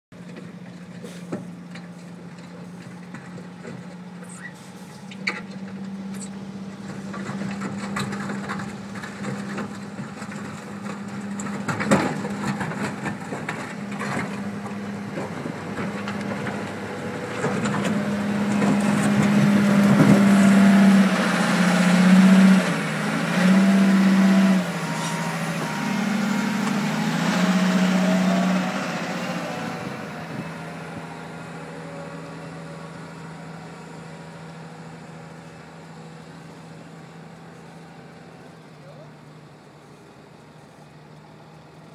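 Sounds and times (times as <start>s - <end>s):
wheel loader diesel engine revving: 0.2s - 41.9s.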